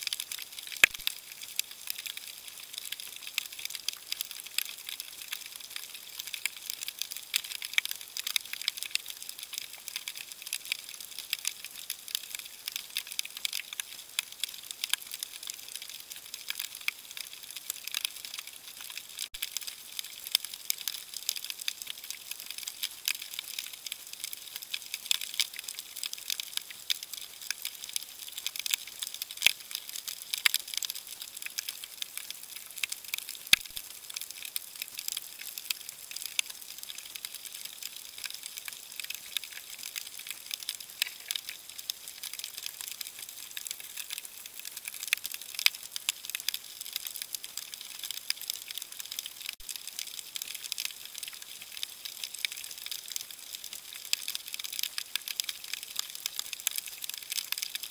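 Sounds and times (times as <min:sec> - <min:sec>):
snapping shrimp clicks underwater: 0:00.0 - 0:57.9.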